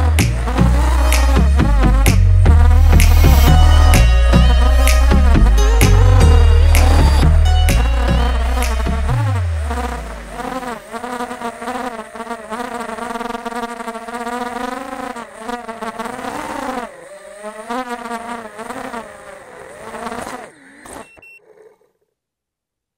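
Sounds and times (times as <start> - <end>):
drone motors whining: 0.0 - 21.3.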